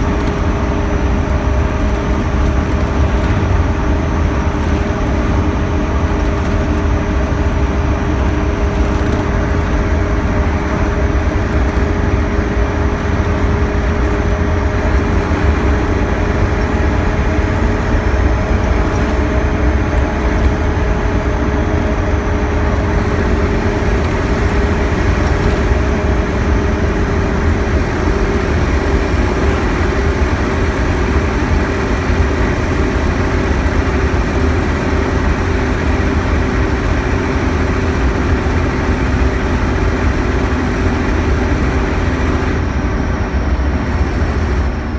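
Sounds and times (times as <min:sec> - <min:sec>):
diesel coach engine running: 0:00.0 - 0:44.9.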